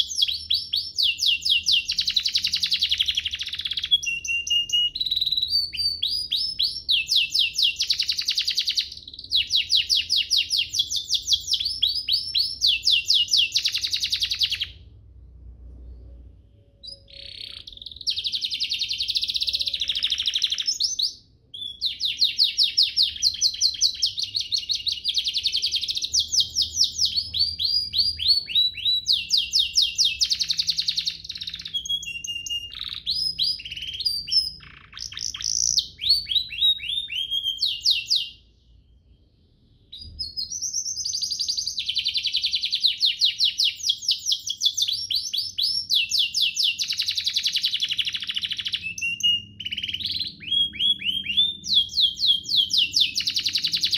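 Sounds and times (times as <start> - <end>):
canary singing trills: 0.0 - 15.0, 16.0 - 53.9.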